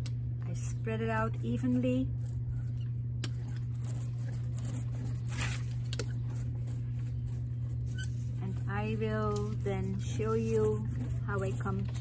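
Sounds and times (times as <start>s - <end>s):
steady low hum: 0.0s - 12.0s
ink roller rolling through tacky ink: 0.5s - 12.0s.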